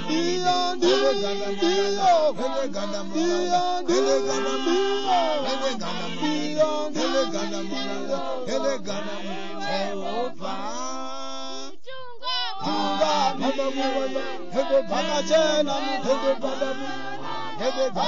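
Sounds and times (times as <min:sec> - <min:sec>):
voices singing together: 0:00.0 - 0:18.0.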